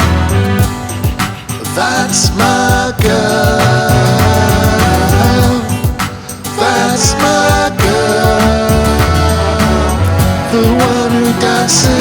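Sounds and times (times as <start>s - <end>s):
song with steady drum beat: 0.0s - 12.0s.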